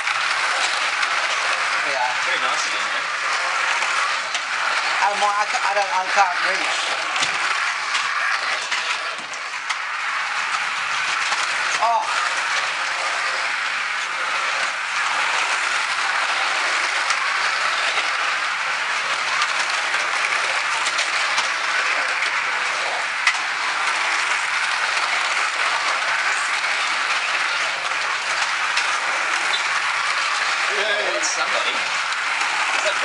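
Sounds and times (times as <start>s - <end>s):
slot car motors whirring: 0.0s - 33.0s.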